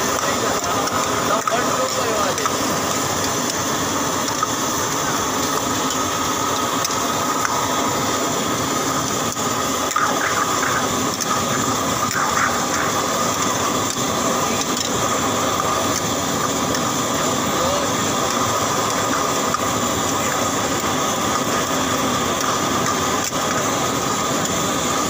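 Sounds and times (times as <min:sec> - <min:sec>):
gas burner roaring: 0:00.0 - 0:25.0
prawns sizzling: 0:00.0 - 0:25.0.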